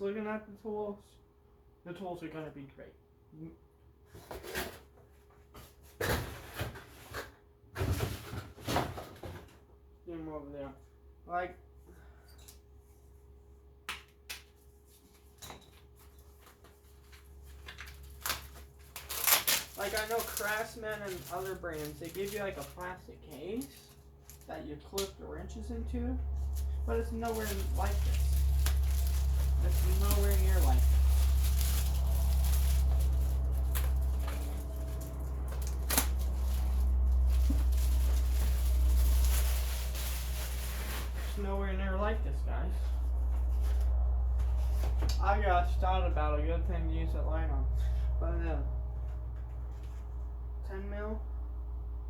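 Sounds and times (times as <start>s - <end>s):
steady low hum: 9.5s - 52.0s.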